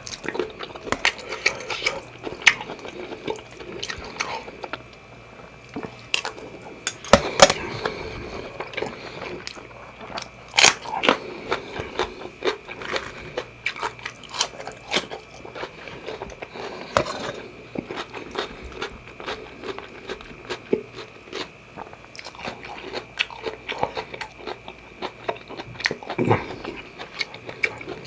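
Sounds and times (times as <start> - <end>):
chewing fried rice: 0.0 - 28.0.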